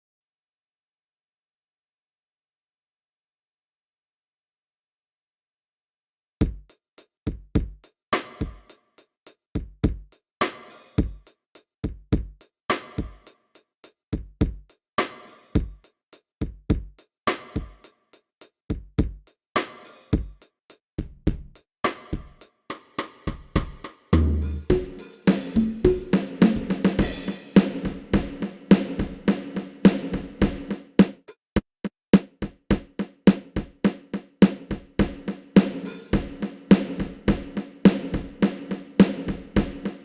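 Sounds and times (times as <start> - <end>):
programmed drum beat: 6.4 - 40.0.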